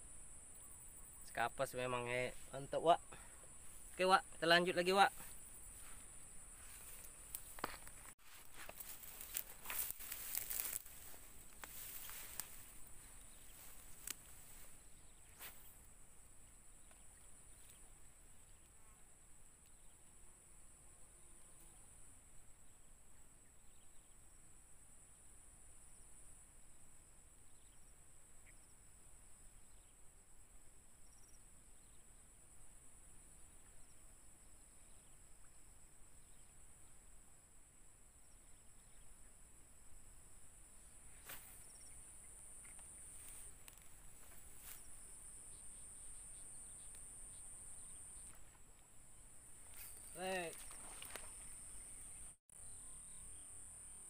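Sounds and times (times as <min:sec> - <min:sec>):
high-pitched insect trill: 0:00.0 - 0:24.2, 0:31.0 - 0:54.0.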